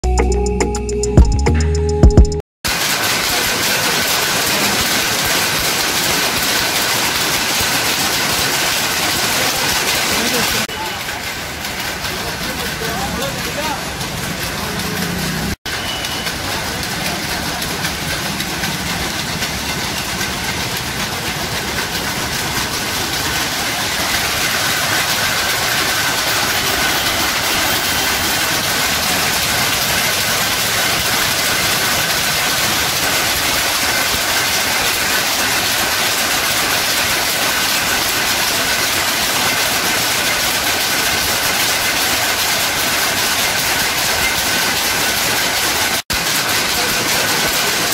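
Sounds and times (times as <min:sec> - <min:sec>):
power looms clattering: 0:02.7 - 0:47.9.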